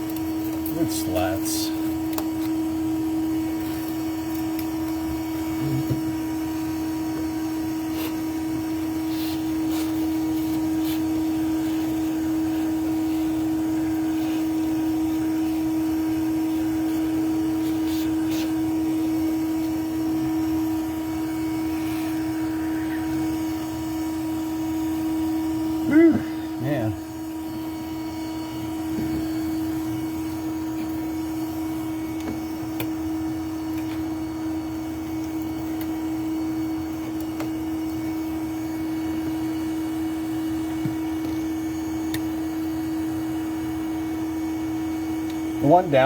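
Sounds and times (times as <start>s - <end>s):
vacuum motor humming: 0.0s - 46.0s.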